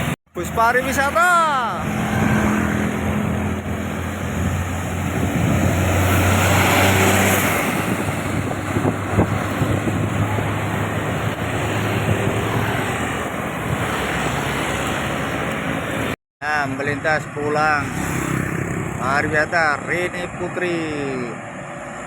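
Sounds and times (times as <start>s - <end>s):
bus passing by: 0.0s - 16.2s, 16.9s - 22.0s
traffic noise: 0.0s - 22.0s.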